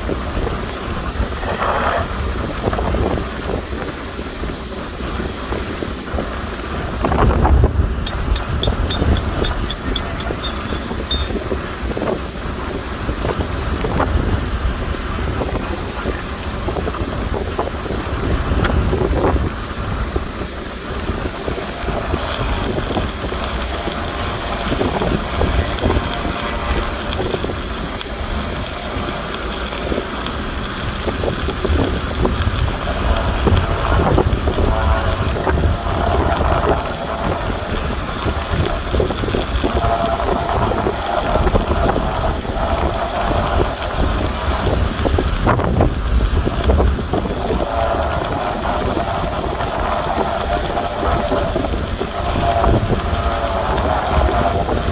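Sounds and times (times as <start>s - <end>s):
welding arc crackling and sputtering: 0.0s - 4.3s, 6.1s - 14.1s, 18.3s - 54.9s.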